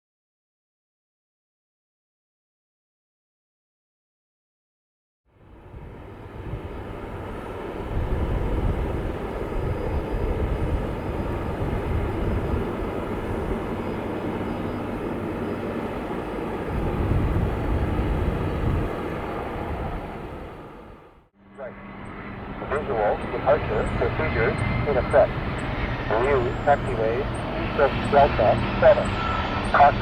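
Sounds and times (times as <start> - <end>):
airliner engines rumbling: 5.4 - 30.0.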